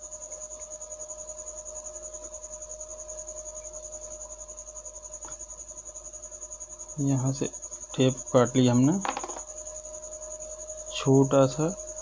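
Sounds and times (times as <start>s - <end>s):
cricket chirping: 0.0s - 12.0s
faint low hum: 0.0s - 12.0s.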